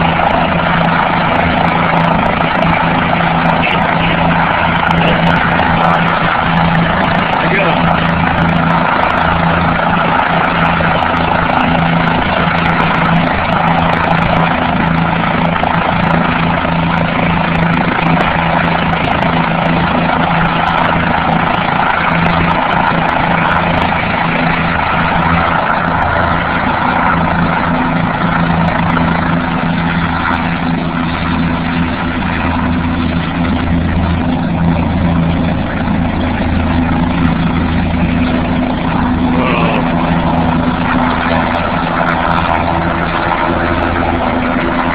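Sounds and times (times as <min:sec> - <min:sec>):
helicopter running: 0:00.0 - 0:44.9.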